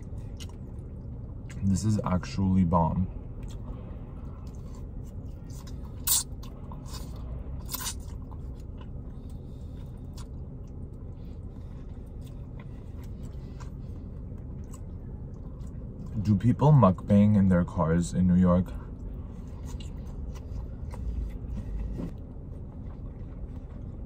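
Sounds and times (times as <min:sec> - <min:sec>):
person chewing noodles: 0:00.0 - 0:01.7, 0:03.2 - 0:16.2, 0:18.9 - 0:24.0
low rumble inside car: 0:00.0 - 0:24.0.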